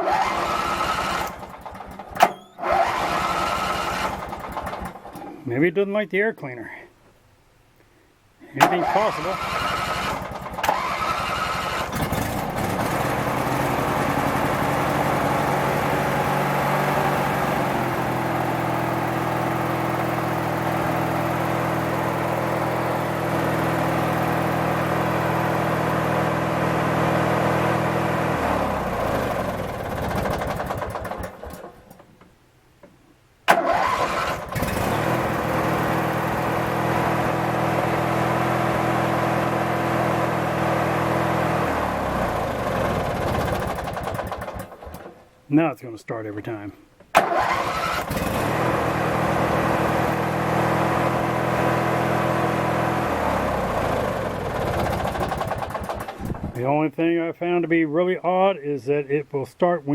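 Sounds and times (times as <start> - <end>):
riding mower engine running: 0.0 - 5.4, 8.6 - 32.3, 33.5 - 45.3, 47.1 - 56.8.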